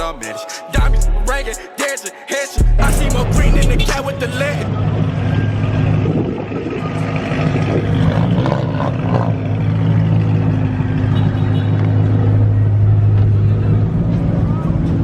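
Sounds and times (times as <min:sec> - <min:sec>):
car engine running: 0:02.6 - 0:15.0.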